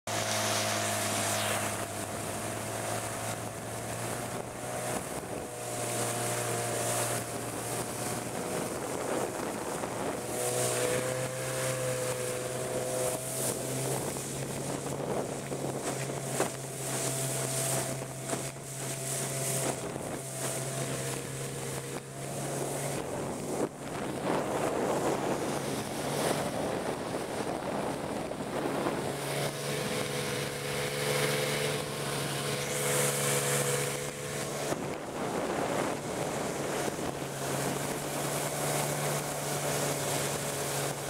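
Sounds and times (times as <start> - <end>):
outboard motor running: 0.1 - 41.0
wind noise on microphone: 0.1 - 41.0.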